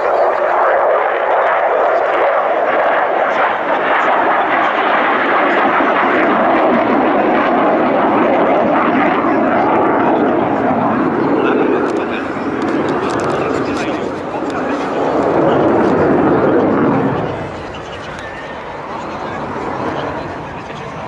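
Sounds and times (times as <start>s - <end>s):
aircraft engine rushing: 0.0s - 21.0s.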